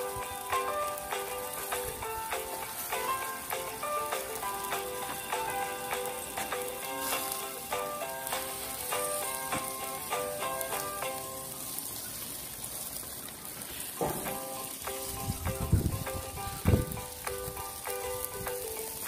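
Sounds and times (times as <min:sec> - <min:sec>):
light instrumental music: 0:00.0 - 0:11.8, 0:14.0 - 0:19.0
meat sizzling on a grill: 0:00.0 - 0:19.0.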